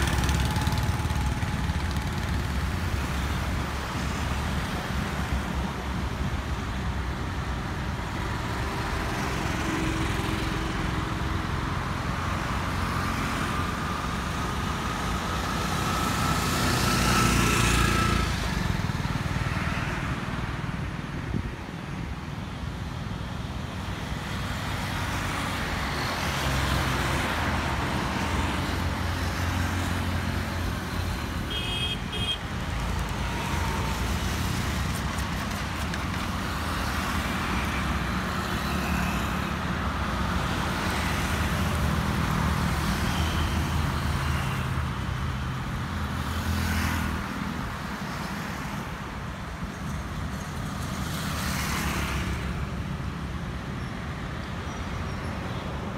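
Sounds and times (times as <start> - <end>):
cars and motorcycles passing: 0.0 - 55.9.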